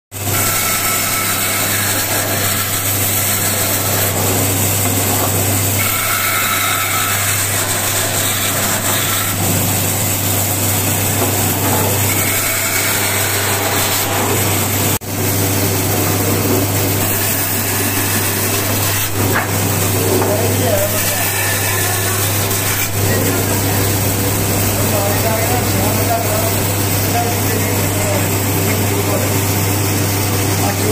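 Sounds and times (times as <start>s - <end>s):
band saw cutting wood: 0.1s - 30.9s.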